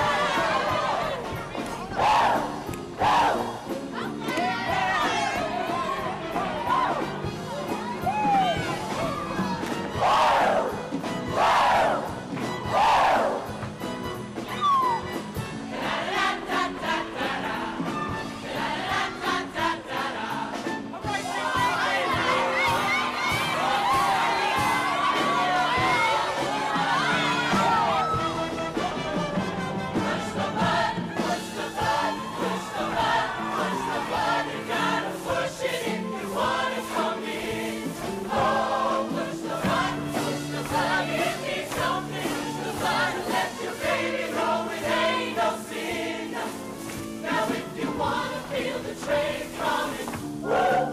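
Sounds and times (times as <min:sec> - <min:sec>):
choir singing upbeat song: 0:00.0 - 0:50.9.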